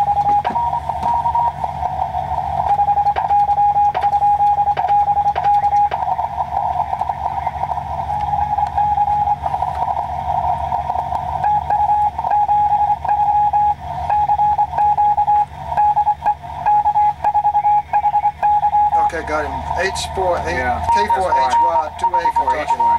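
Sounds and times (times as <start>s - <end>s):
morse code beeps: 0.0s - 22.9s
receiver hiss: 0.0s - 22.9s
steady low hum: 0.0s - 22.9s.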